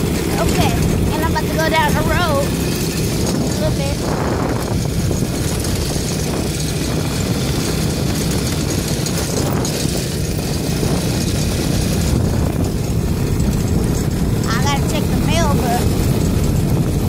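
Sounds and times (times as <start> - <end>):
atv engine running: 0.0 - 17.0
wind buffeting microphone: 0.0 - 17.0.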